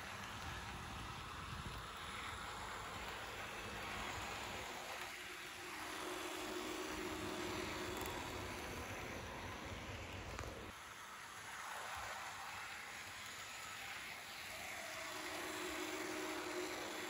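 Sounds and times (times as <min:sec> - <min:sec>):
faint motor hum: 0:00.0 - 0:17.0
model train rolling whir: 0:00.0 - 0:17.0.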